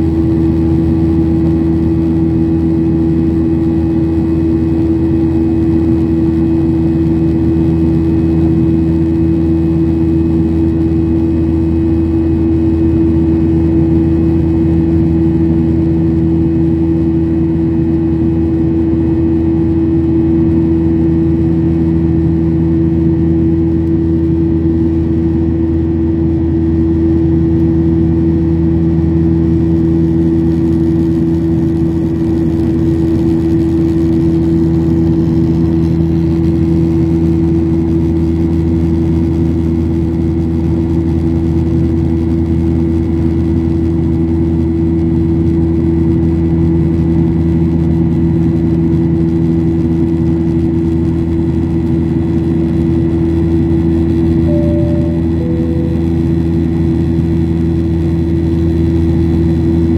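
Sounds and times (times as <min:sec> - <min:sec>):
steady hum tones: 0:00.0 - 0:47.6, 0:48.4 - 0:59.9.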